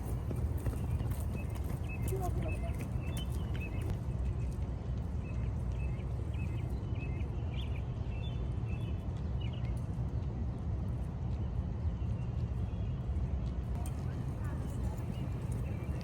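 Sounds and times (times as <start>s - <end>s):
city ambience rumble: 0.0s - 16.0s.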